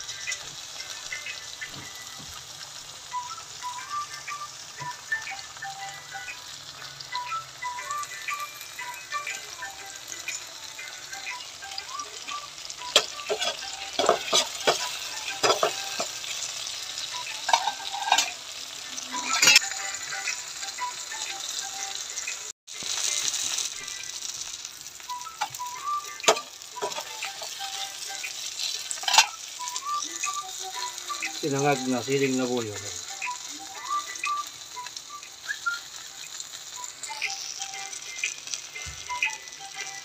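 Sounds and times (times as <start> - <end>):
chillies sizzling in oil: 0.0 - 40.0.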